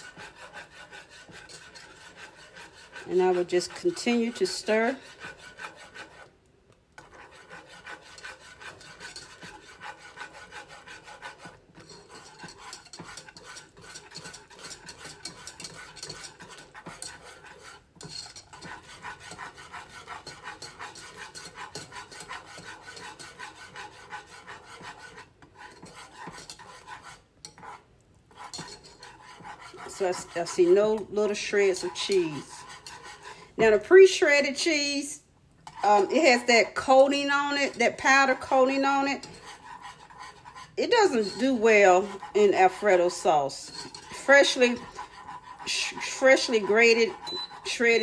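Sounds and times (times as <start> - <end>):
whisk scraping metal saucepan: 0.0 - 48.0.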